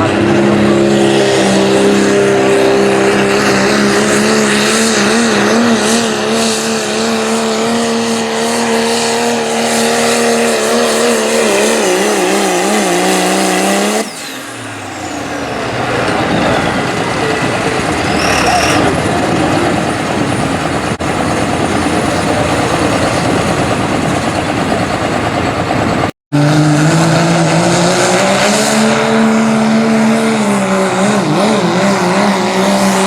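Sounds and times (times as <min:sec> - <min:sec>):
diesel truck engine at full throttle: 0:00.0 - 0:33.0.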